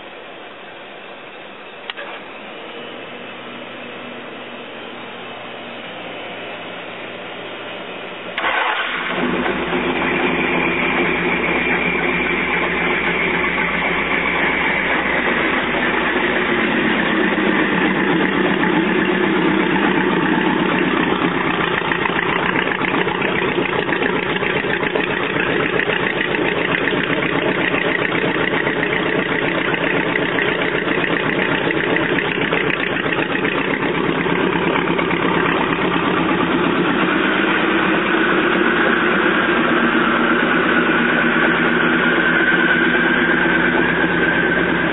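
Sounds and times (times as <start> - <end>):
boat engine starting and idling: 1.7 - 44.9.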